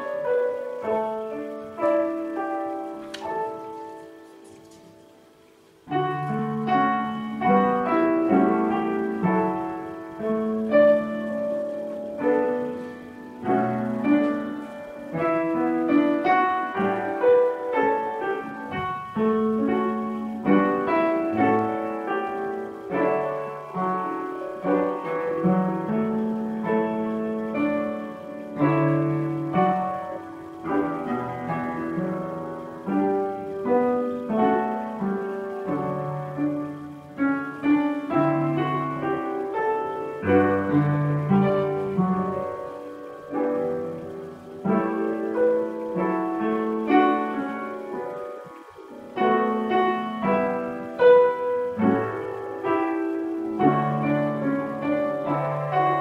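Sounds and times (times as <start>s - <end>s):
piano piece: 0.0s - 56.0s.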